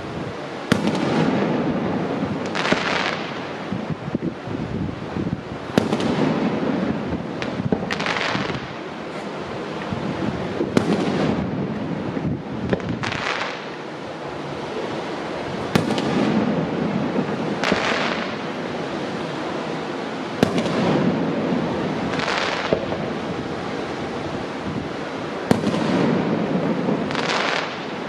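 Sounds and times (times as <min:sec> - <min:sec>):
fireworks bangs with rolling echo: 0:00.0 - 0:28.0
fireworks crackling hisses: 0:00.0 - 0:28.0.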